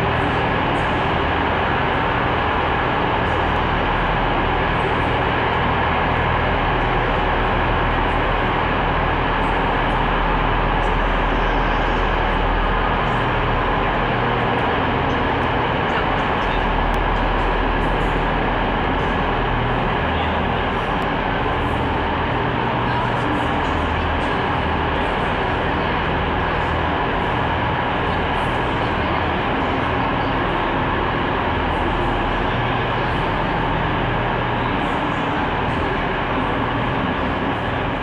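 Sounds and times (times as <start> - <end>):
faint constant whine: 0.0 - 38.0
train rumble and hum: 0.0 - 38.0.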